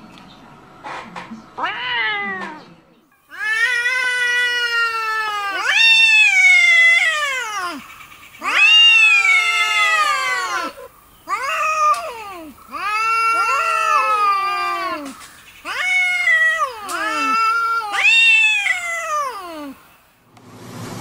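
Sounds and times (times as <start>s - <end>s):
cats yowling: 1.6s - 2.6s, 3.3s - 19.8s.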